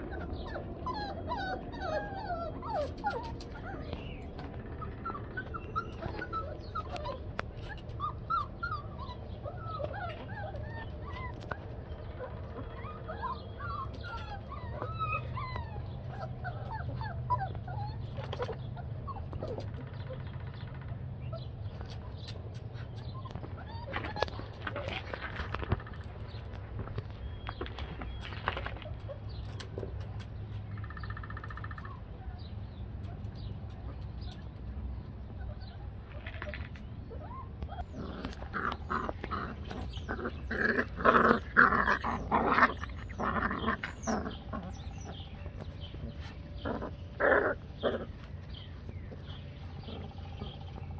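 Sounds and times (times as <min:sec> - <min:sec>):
low steady rumble: 0:00.0 - 0:50.9
puppies whimpering: 0:00.0 - 0:50.9
small birds chirping: 0:00.0 - 0:50.9.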